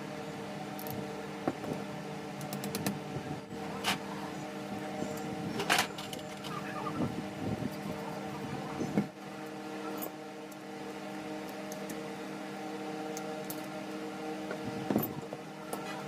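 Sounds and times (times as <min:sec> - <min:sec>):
table fan humming: 0:00.0 - 0:16.0.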